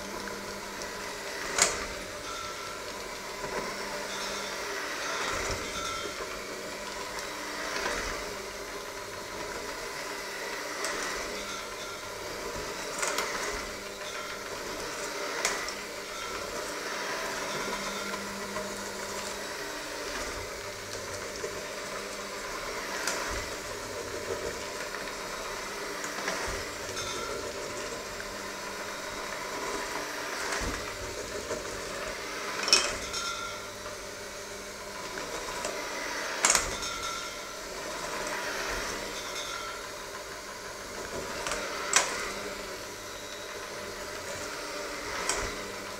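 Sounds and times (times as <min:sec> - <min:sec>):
electric hand mixer running: 0:00.0 - 0:45.9.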